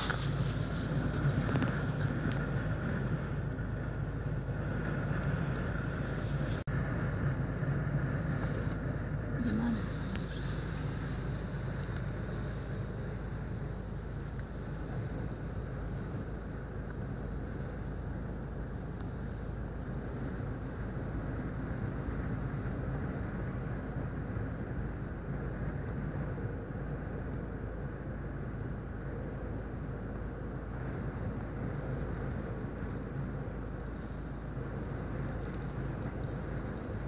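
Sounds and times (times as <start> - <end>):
car engine running: 0.0 - 37.0
strong wind against car: 0.0 - 37.0.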